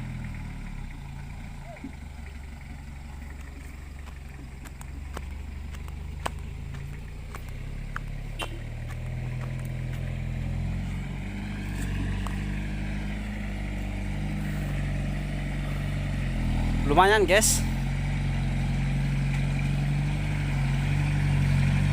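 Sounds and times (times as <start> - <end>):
engine humming: 0.0 - 21.9.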